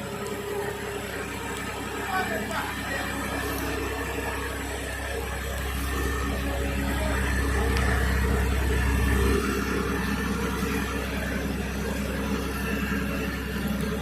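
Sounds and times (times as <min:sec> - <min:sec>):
heavy machine engine droning: 0:00.0 - 0:14.0.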